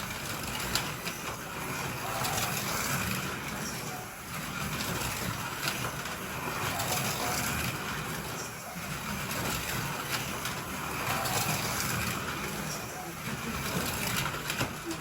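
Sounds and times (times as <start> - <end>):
slot cars lapping a track: 0.0 - 15.0.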